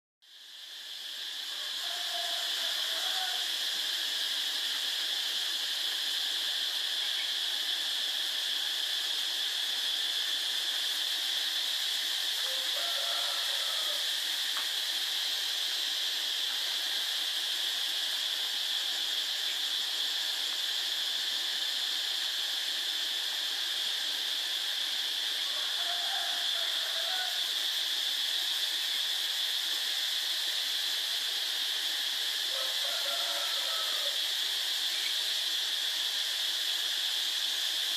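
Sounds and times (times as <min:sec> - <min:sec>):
high-pitched hiss: 0:00.2 - 0:37.9.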